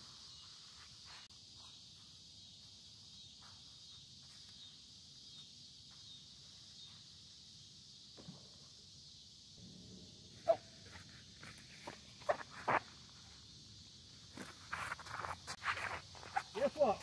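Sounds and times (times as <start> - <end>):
faint insect chirring: 0.0 - 17.0.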